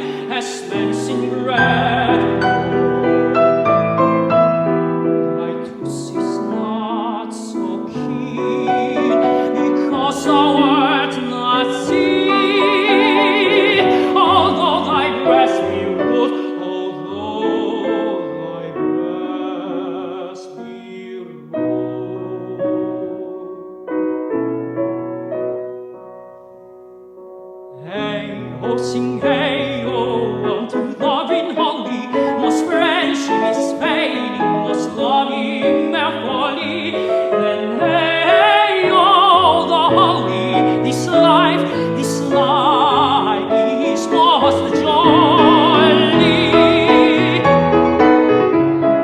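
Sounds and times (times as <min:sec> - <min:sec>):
man singing classical song: 0:00.0 - 0:04.4, 0:05.0 - 0:24.0, 0:27.7 - 0:48.4
piano accompaniment: 0:00.0 - 0:49.0.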